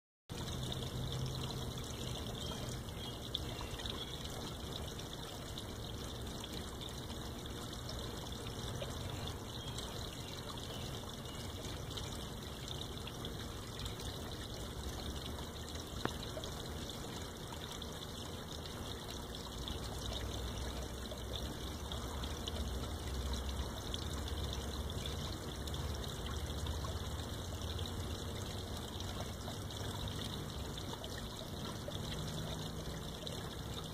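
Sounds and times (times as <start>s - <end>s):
water pouring into pond: 0.3s - 33.9s.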